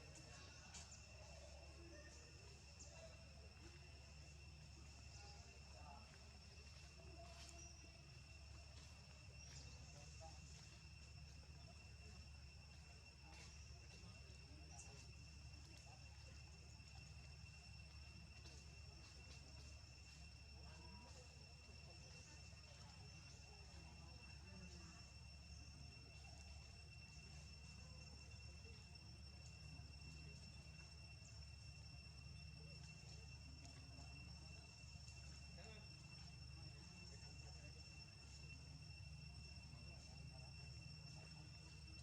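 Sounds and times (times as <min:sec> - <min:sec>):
high insect drone: 0:00.0 - 0:42.0.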